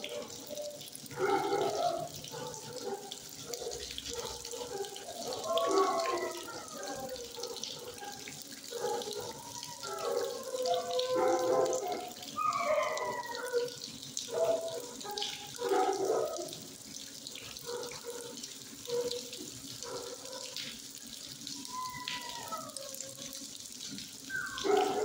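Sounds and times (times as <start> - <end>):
water rushing: 0.0 - 16.4, 18.9 - 25.0.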